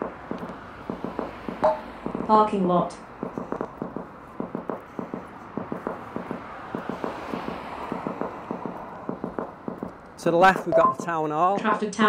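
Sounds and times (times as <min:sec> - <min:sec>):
fast even drum beats: 0:00.0 - 0:02.4, 0:03.2 - 0:11.0
street noise: 0:00.0 - 0:12.0.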